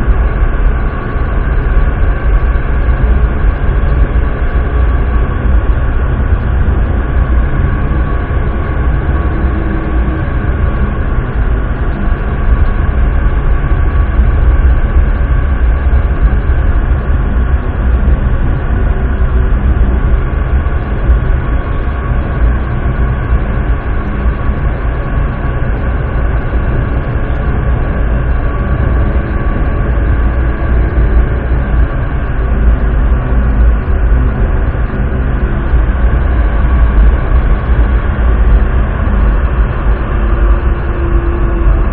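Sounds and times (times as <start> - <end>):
faint steady whine: 0.0 - 41.9
train rumbling through tunnel: 0.0 - 41.9.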